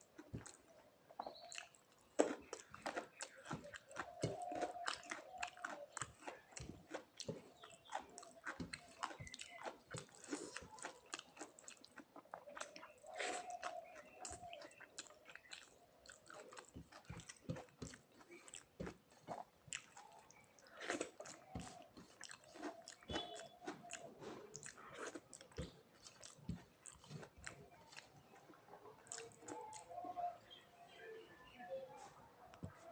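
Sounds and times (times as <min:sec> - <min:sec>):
person chewing food: 0:00.0 - 0:30.3.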